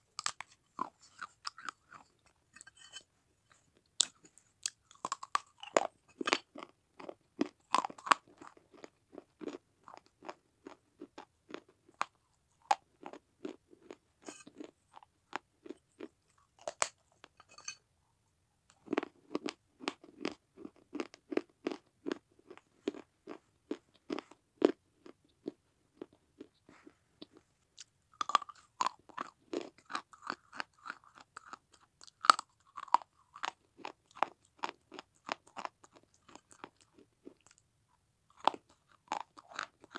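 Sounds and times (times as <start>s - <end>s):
crunching and chewing clay: 0.1s - 17.6s, 18.7s - 39.9s.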